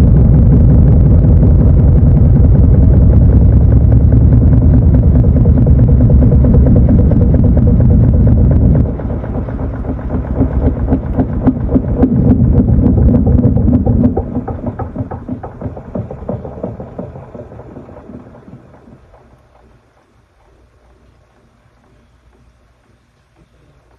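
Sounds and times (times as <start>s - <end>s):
washing machine running: 0.0s - 23.9s.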